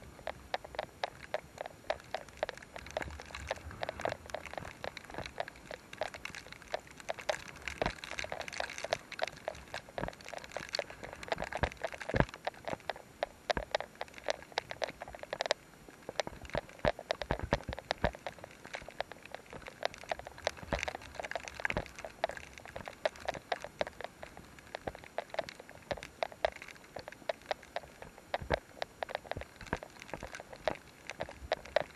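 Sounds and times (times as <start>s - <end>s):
rain pattering: 0.0s - 31.9s.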